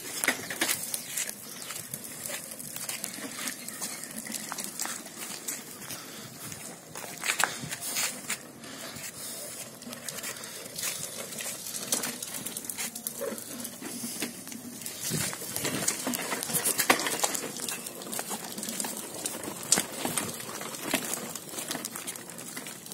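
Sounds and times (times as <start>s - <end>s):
tricycle rolling over rough paving: 0.0s - 22.9s.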